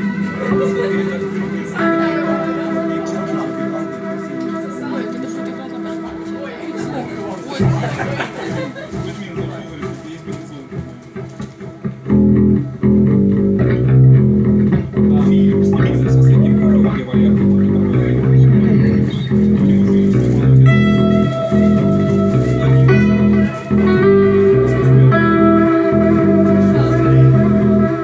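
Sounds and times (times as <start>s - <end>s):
low guitar riff: 0.0s - 8.2s, 10.2s - 28.0s
held lead guitar notes: 0.0s - 28.0s.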